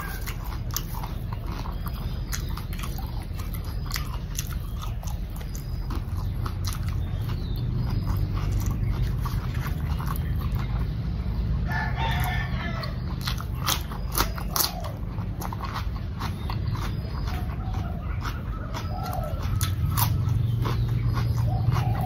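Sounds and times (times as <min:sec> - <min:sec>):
crisp cucumber crunches: 0:00.0 - 0:10.9, 0:12.0 - 0:22.0
animal call: 0:00.0 - 0:22.0
chewing: 0:00.0 - 0:22.0.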